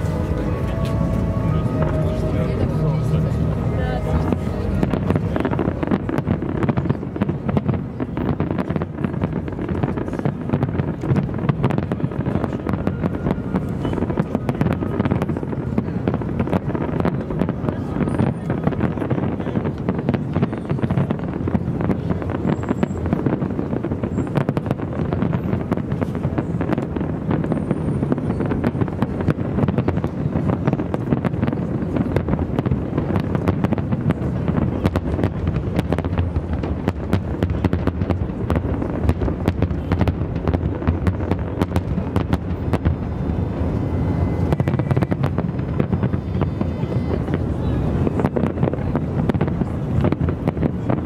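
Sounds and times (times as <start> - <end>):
deep steady rumble: 0.0 - 51.0
firework bangs and crackles: 0.0 - 51.0.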